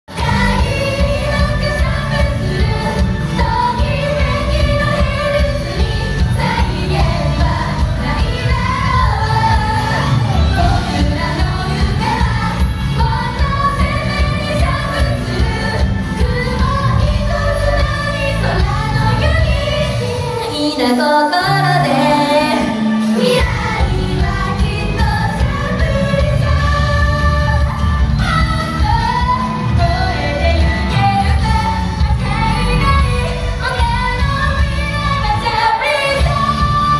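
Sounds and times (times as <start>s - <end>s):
pop music with heavy bass: 0.1s - 36.9s
women singing into microphones: 0.1s - 36.9s.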